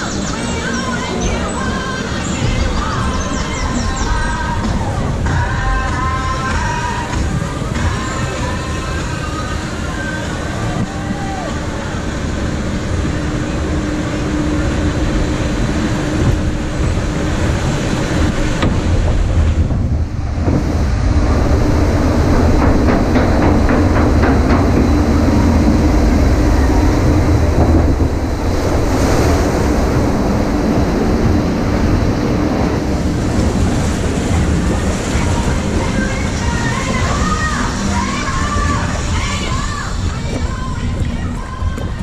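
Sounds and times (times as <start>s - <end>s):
ride mechanical rumble and hum: 0.0s - 42.0s
rushing water: 0.0s - 42.0s.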